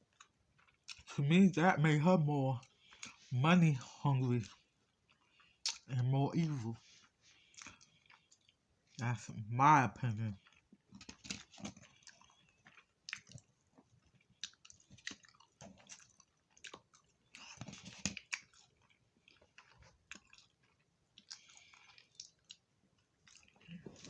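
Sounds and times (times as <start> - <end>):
person chewing food: 0.0 - 1.1, 2.6 - 9.0, 10.3 - 24.0.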